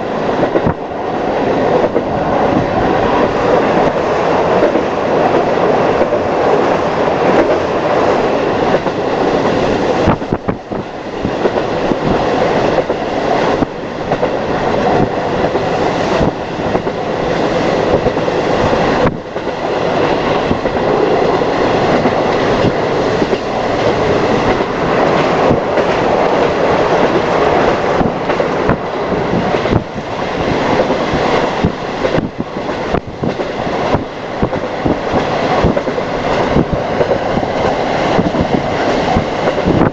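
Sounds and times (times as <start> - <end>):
train rumble: 0.0 - 39.9
wheels clicking over rails: 0.0 - 39.9.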